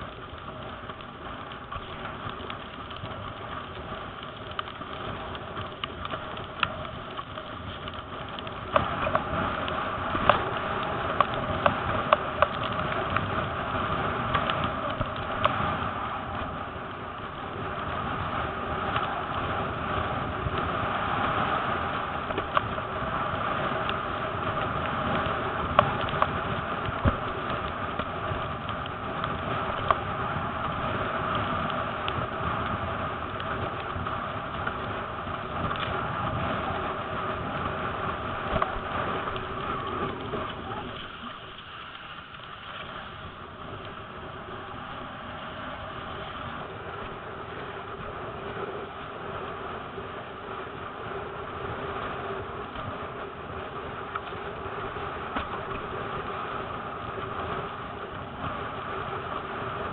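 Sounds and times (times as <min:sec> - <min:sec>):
water rushing: 0:00.0 - 0:56.3
gusty wind on microphone: 0:00.0 - 0:59.9.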